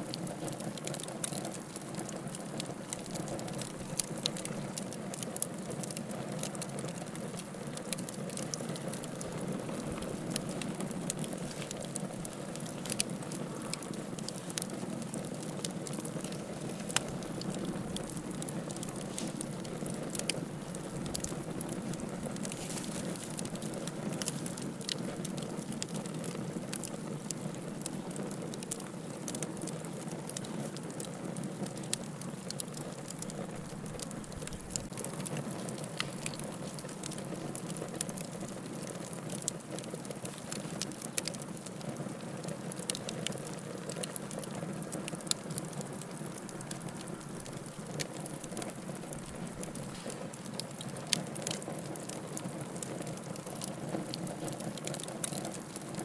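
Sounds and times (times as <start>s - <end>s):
wood fire hissing and crackling: 0.0s - 56.0s.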